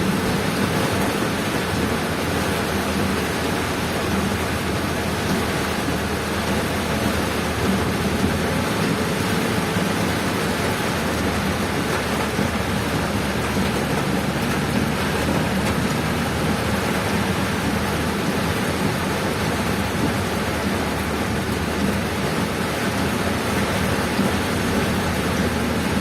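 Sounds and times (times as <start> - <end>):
heavy rain and wind: 0.0 - 26.0
low vehicle hum: 0.0 - 26.0.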